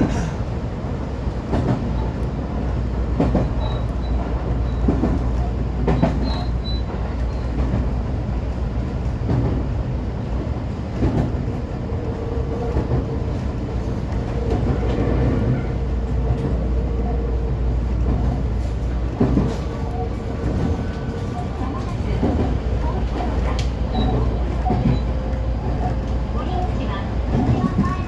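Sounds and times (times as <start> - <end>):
wheels rumbling on rail: 0.0 - 28.0.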